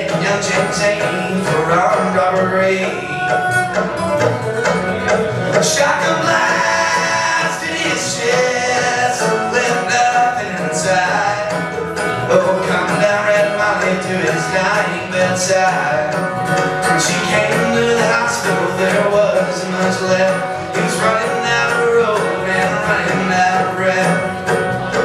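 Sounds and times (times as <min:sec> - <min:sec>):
man singing: 0:00.0 - 0:04.3, 0:05.3 - 0:25.0
bluegrass string band playing: 0:00.0 - 0:25.0.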